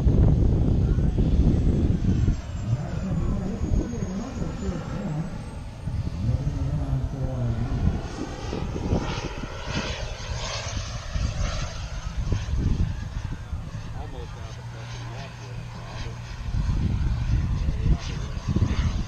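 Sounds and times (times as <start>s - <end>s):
model plane engine: 0.0s - 19.0s.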